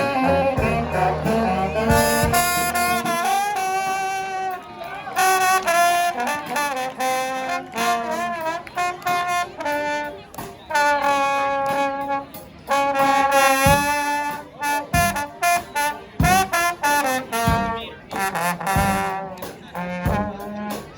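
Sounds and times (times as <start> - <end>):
brass band playing: 0.0 - 20.9.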